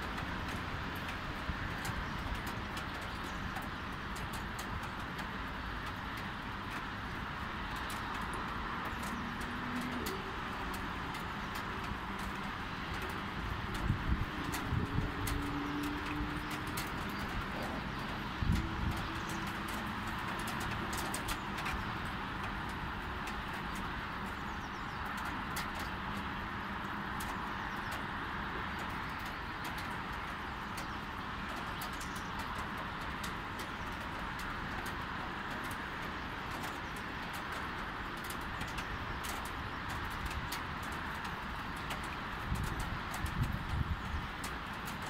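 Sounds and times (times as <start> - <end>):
distant city traffic: 0.0 - 45.0.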